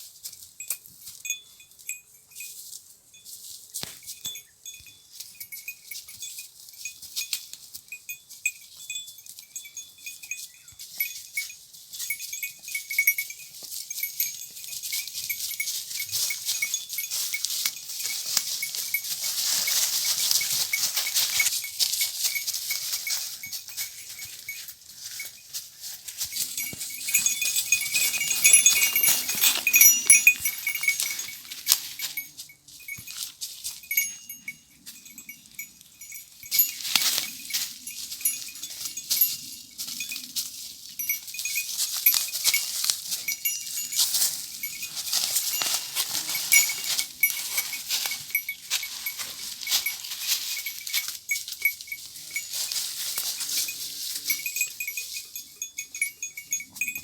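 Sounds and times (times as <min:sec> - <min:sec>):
goat bells clinking: 0:00.0 - 0:57.0
steady rustling: 0:10.5 - 0:56.9.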